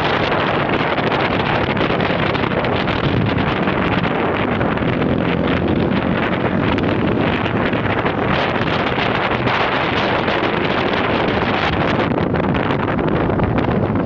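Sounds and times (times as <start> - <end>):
engine and road hum: 0.0 - 14.0
wind buffeting microphone: 0.0 - 14.0.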